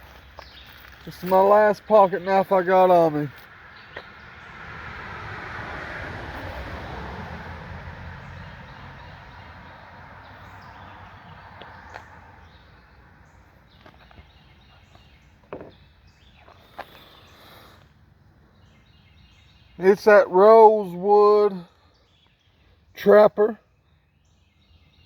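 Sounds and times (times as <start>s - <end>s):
passing vehicle rush: 0.7s - 21.7s.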